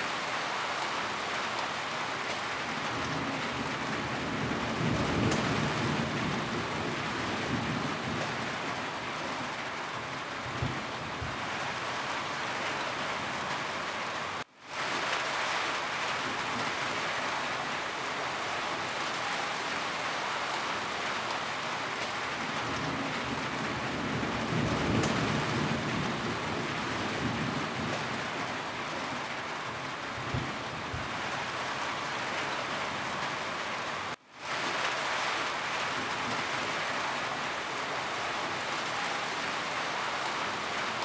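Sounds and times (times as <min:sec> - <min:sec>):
heavy rain on a roof: 0:00.0 - 0:41.0.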